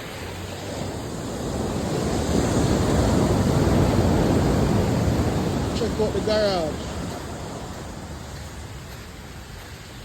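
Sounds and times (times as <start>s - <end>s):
surf: 0.0s - 9.8s
wind buffeting microphone: 0.0s - 10.0s.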